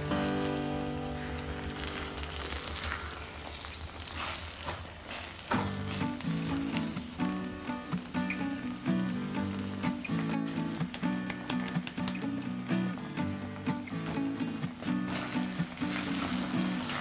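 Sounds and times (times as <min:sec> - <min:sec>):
plucked background music: 0:00.0 - 0:02.5, 0:05.6 - 0:17.0
rice sizzling in a frying pan: 0:00.0 - 0:17.0.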